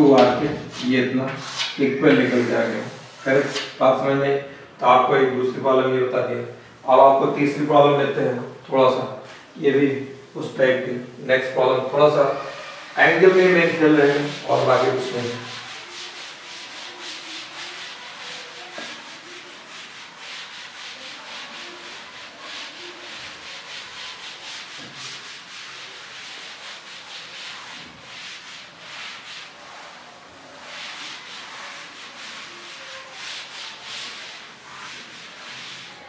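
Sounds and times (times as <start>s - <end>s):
cloth wiping a chalkboard: 0.0s - 36.0s.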